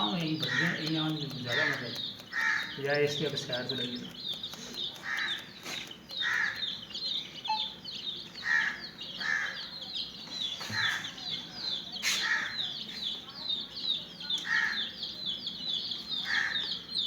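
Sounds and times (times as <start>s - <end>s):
baby chicks peeping: 0.0s - 17.0s.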